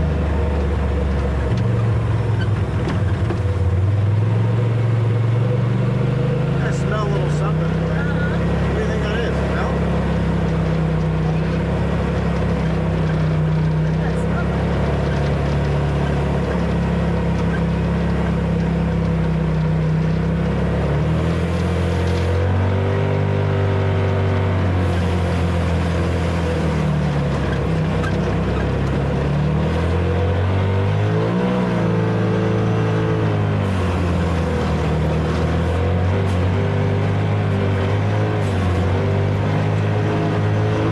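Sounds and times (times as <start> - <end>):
vehicle engine revving: 0.0 - 40.9.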